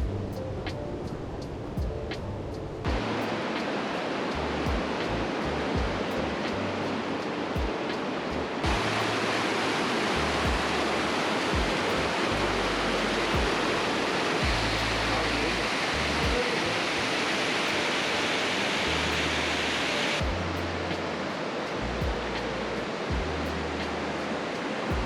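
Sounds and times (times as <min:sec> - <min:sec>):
background music with beat: 0:00.0 - 0:16.6, 0:20.2 - 0:25.0
loud rushing noise: 0:01.3 - 0:25.0.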